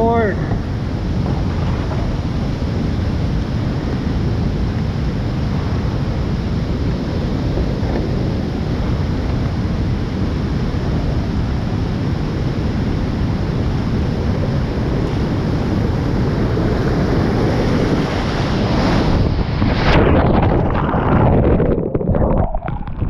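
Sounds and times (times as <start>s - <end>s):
whitewater roaring at waterfall: 0.0s - 21.1s.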